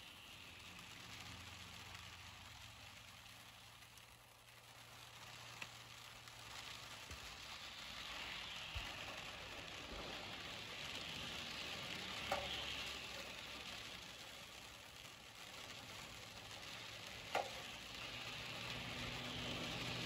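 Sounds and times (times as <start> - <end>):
rain falling: 0.0 - 20.0
vehicles hissing on wet road: 0.0 - 20.0.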